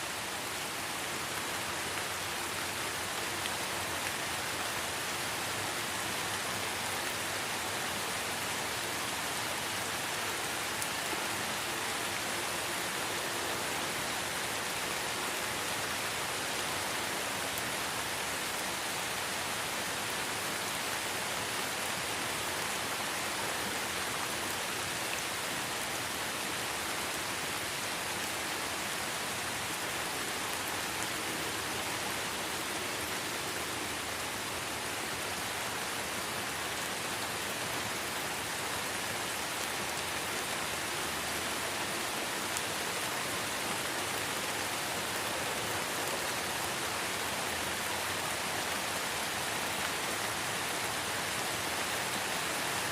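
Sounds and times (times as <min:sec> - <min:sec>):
light rain on leaves: 0:00.0 - 0:52.9.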